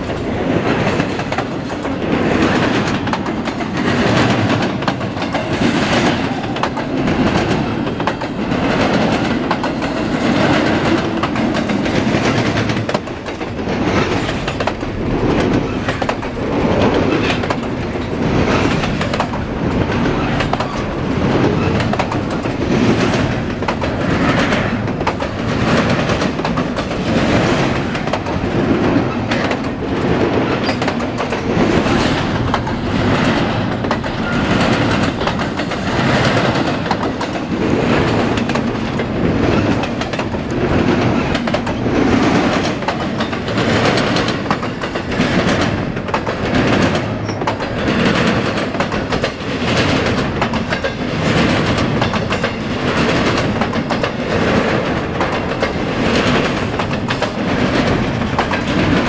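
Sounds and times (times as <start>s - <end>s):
train wheels clacking over rails: 0.0s - 59.0s.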